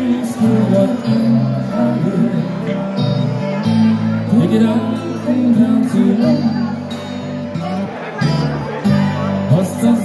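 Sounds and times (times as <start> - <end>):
live band playing amplified music: 0.0 - 10.0.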